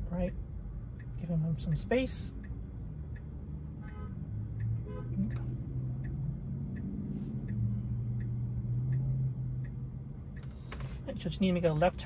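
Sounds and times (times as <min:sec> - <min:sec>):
car cabin road hum: 0:00.0 - 0:12.0.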